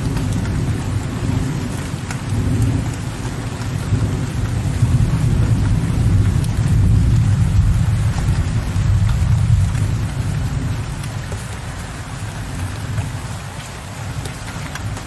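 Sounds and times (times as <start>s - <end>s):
distant thunder rumble: 0.0s - 15.0s
steady rain falling: 0.0s - 15.0s.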